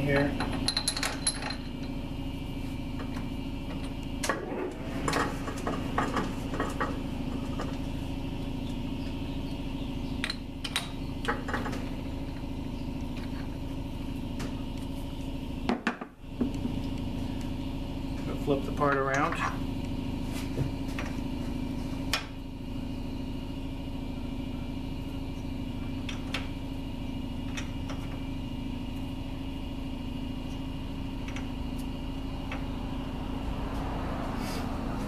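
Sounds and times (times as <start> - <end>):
steady machine hum: 0.0 - 35.0.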